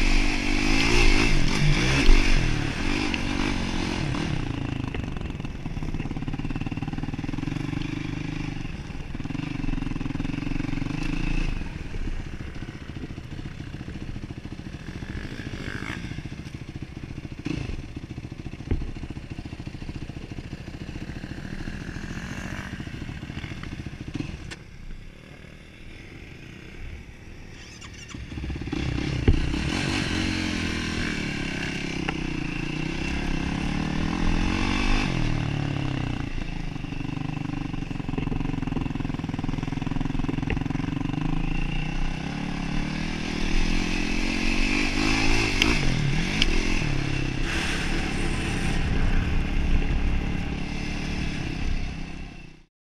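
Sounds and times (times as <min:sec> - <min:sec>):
off-road motorcycle engine revving: 0:00.0 - 0:52.7.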